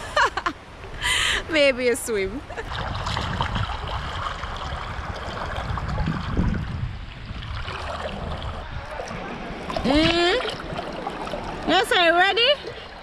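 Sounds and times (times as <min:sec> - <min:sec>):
shallow river water flowing: 0:00.0 - 0:13.0
legs splashing in water: 0:02.6 - 0:13.0.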